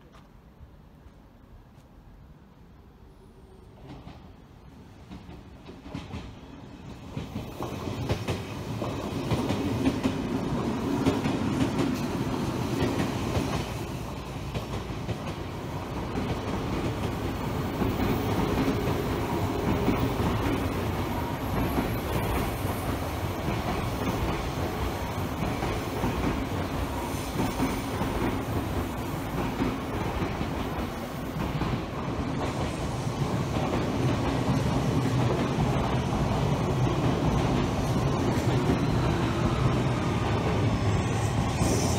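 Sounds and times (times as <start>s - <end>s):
electric trains passing: 0.8s - 41.9s.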